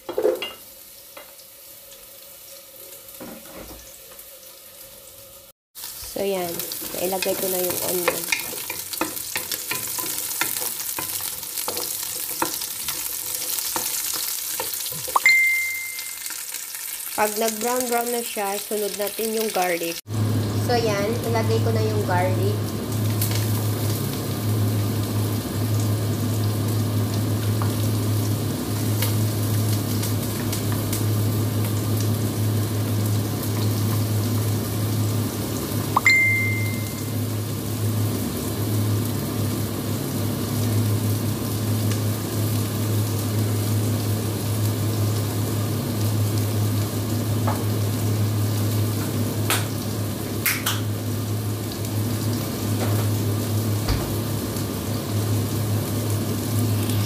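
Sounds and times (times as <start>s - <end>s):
onion sizzling in hot oil: 0.0s - 57.0s.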